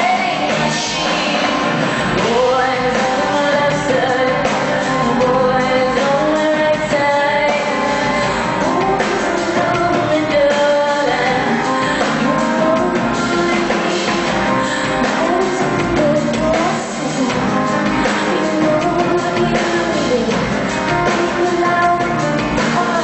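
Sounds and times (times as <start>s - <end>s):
full rock band playing: 0.0s - 23.0s
woman singing rock song: 0.0s - 23.0s.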